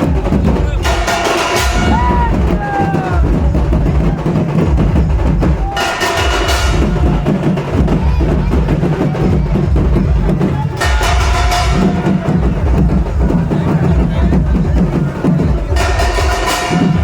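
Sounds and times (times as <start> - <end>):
drums playing dense beat: 0.0 - 17.0.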